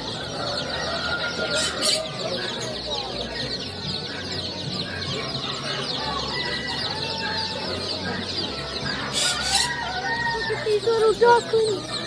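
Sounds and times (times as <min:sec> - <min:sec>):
poultry chirping and peeping: 0:00.0 - 0:12.0.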